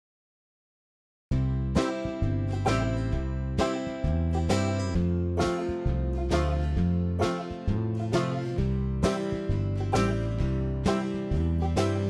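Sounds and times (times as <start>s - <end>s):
steady bass notes: 1.3s - 12.0s
strummed acoustic guitar chords: 1.3s - 12.0s.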